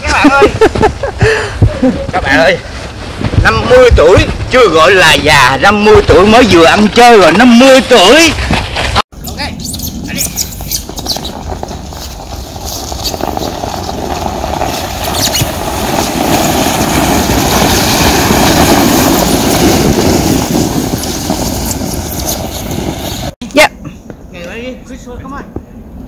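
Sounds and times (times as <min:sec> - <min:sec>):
sleds sliding over packed snow: 0:00.0 - 0:23.4.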